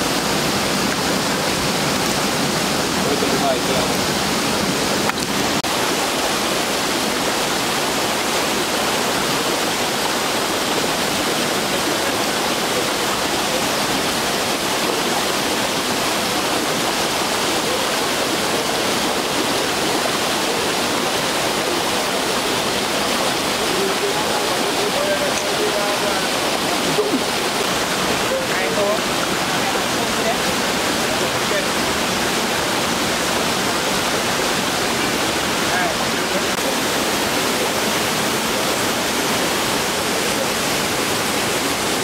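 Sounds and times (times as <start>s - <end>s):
rushing waterfall: 0.0s - 42.0s.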